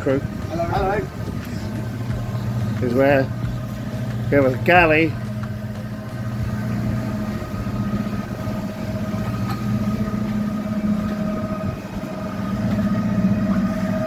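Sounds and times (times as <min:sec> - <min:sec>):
boat engines humming: 0:00.0 - 0:14.0.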